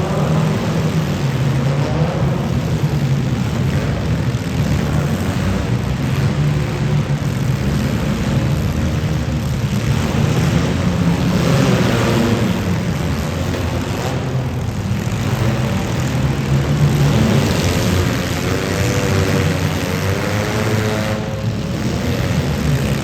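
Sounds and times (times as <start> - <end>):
car engines running loudly: 0.0 - 23.0.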